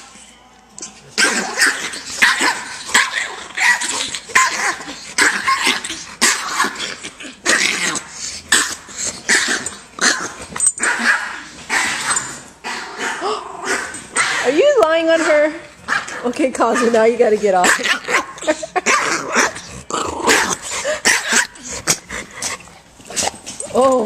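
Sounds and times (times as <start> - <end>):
dogs barking and growling: 0.8 - 24.0.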